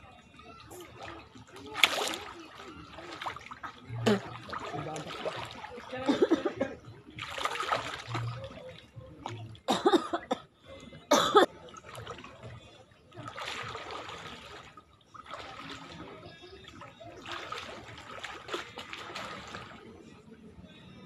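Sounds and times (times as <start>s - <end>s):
pool water splashing: 0.0s - 10.3s, 11.2s - 20.4s.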